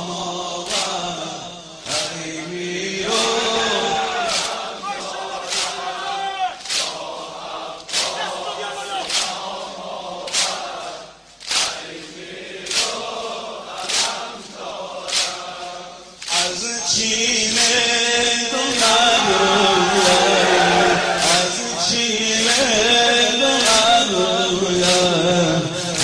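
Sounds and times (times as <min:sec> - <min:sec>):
group singing: 0:00.0 - 0:26.0
men chanting: 0:00.0 - 0:26.0
sharp rhythmic beats: 0:00.0 - 0:26.0.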